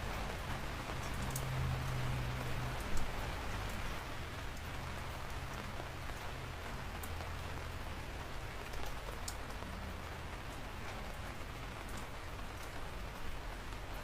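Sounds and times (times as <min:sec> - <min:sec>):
raindrops ticking close by: 0:00.0 - 0:14.0
steady rain: 0:00.0 - 0:14.0.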